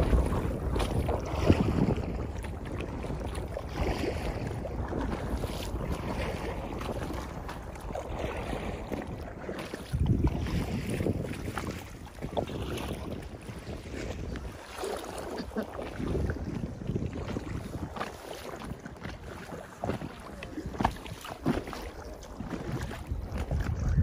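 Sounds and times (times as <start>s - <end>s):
water lapping at kayak: 0.0s - 24.0s
wind rumbling on microphone: 0.0s - 24.0s.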